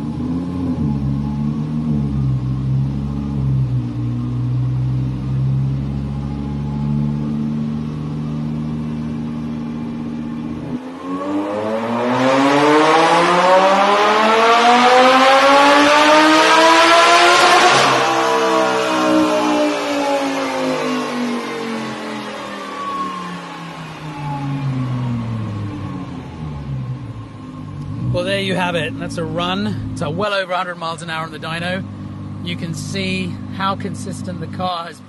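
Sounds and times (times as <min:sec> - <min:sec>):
car engine revving on a dyno: 0:00.0 - 0:30.4.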